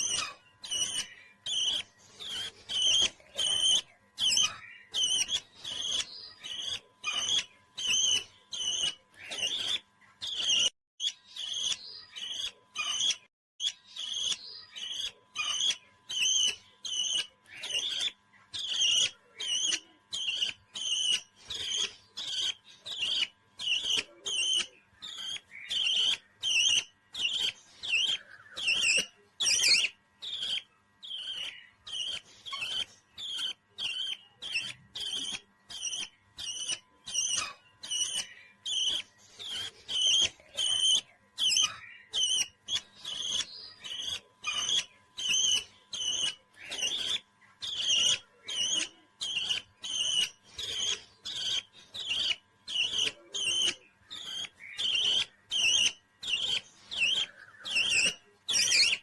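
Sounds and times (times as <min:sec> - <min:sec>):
parrot chirping: 0:00.0 - 0:59.0.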